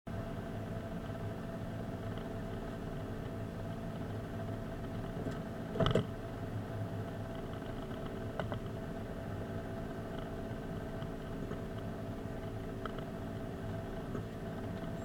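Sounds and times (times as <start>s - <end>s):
car engine humming: 0.1s - 15.0s.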